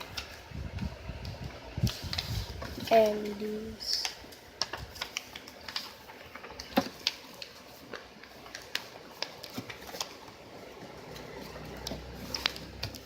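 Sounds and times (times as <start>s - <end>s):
paper crinkling and creasing: 0.0s - 13.0s.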